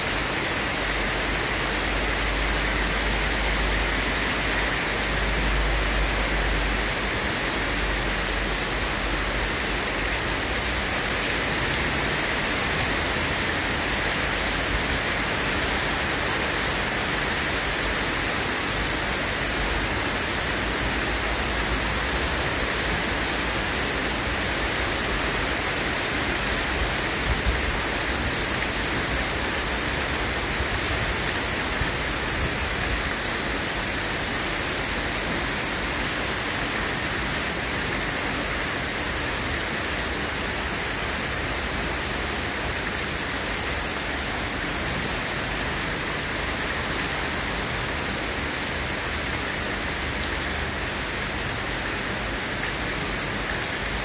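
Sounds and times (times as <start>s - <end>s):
heavy rain on leafy trees: 0.0s - 54.0s.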